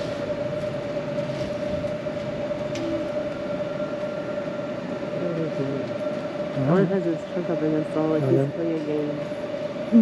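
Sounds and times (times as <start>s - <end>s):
steady mechanical drone: 0.0s - 10.0s.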